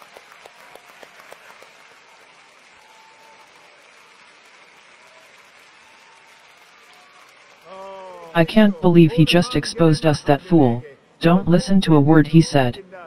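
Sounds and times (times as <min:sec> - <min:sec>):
faint audience applause: 0:00.0 - 0:10.8.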